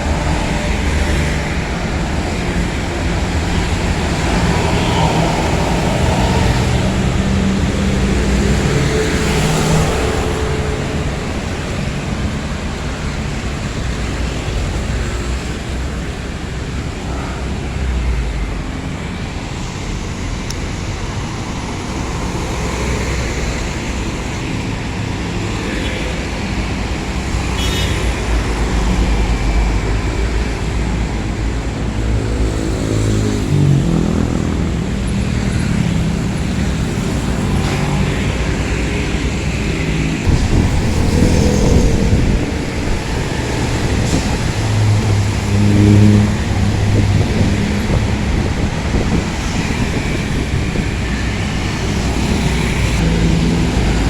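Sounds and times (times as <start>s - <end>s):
diesel bus engine drone: 0.0s - 54.0s
tyre and road noise: 0.0s - 54.0s.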